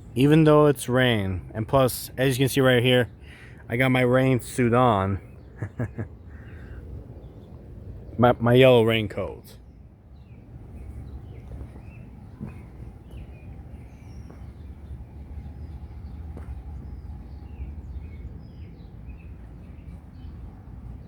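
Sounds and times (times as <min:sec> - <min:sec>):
birds chirping: 0:00.0 - 0:21.0
low outdoor rumble: 0:00.0 - 0:21.0.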